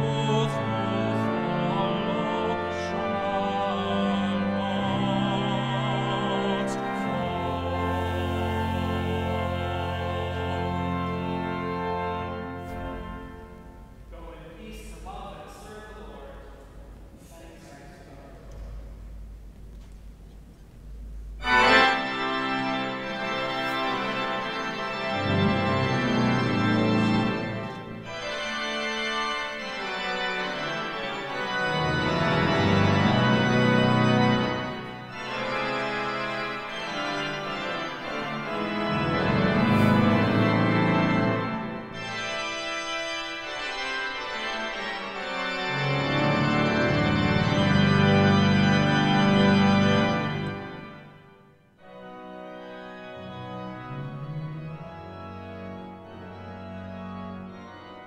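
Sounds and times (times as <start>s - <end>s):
pipe organ playing chords: 0.0s - 18.7s, 20.9s - 58.0s.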